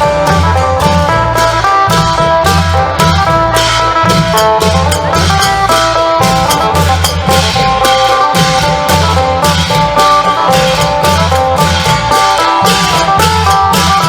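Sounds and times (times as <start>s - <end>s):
long drums and percussion: 0.0s - 14.0s
plucked lute melody: 0.0s - 14.0s.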